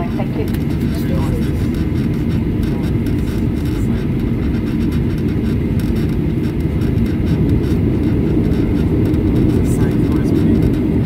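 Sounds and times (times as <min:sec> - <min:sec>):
jet engine low rumble: 0:00.0 - 0:11.0.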